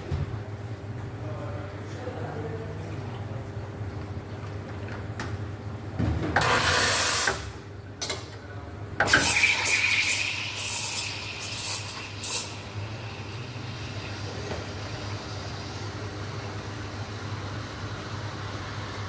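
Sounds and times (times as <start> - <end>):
low machine hum: 0.0 - 6.4, 7.5 - 19.0.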